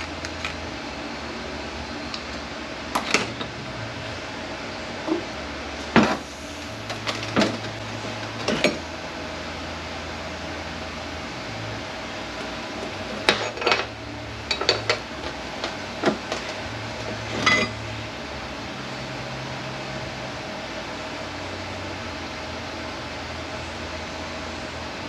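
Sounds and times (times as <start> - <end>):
shop fan hum: 0.0 - 25.0.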